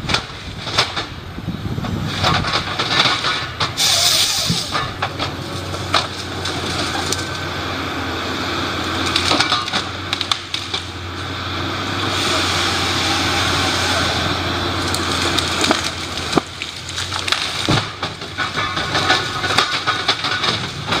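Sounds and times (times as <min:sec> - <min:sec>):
wood cracking and splintering: 0:00.0 - 0:01.2, 0:01.8 - 0:07.8, 0:08.7 - 0:11.3, 0:12.2 - 0:21.0
wood-cutting machine engine running: 0:03.4 - 0:21.0.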